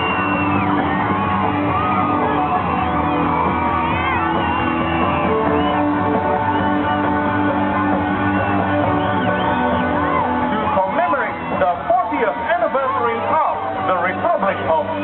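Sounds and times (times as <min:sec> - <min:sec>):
crowd shouting and whooping: 0:00.0 - 0:15.0
music playing: 0:00.0 - 0:15.0.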